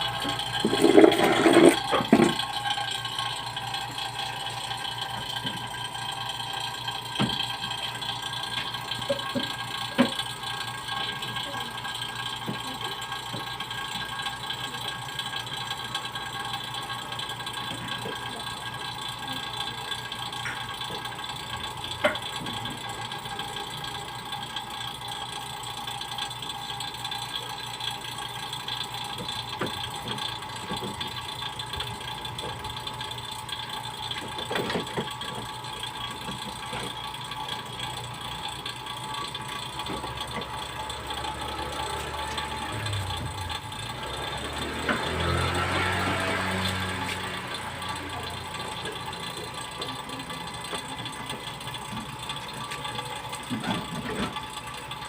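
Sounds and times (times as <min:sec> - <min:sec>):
small motor humming: 0:00.0 - 0:11.8, 0:17.3 - 0:54.3.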